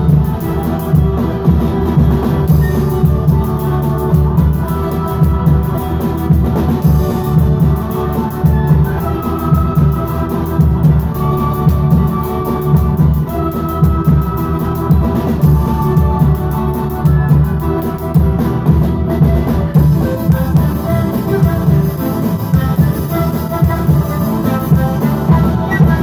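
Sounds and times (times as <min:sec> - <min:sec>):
drums and bass guitar beat: 0:00.0 - 0:26.0
end-blown flute: 0:00.0 - 0:26.0
folk band playing: 0:00.0 - 0:26.0
panpipes melody: 0:00.0 - 0:26.0.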